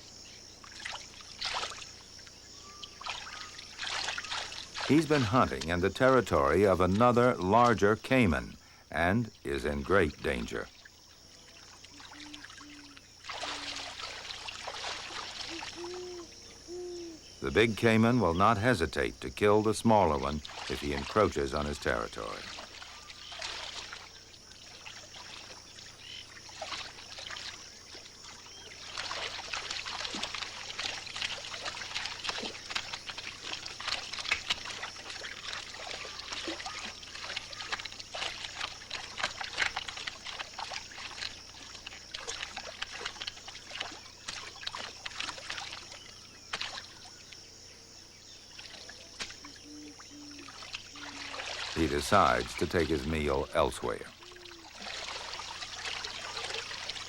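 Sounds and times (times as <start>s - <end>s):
animals splashing in water: 0.0s - 57.0s.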